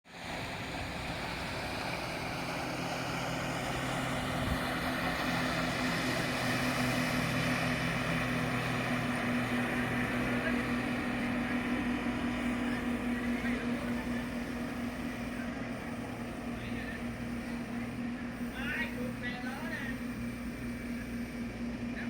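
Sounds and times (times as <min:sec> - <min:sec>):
wind: 0:00.0 - 0:22.0
motorboat engine running: 0:00.1 - 0:22.0.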